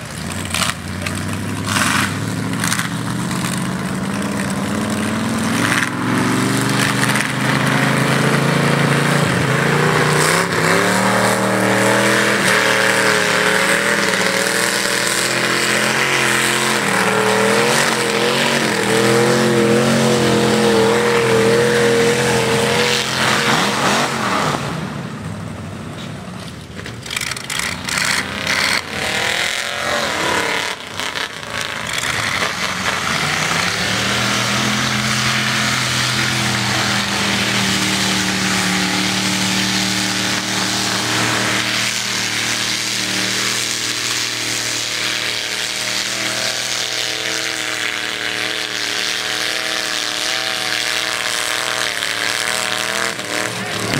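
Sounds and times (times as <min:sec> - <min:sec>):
truck engine revving: 0:00.0 - 0:53.9.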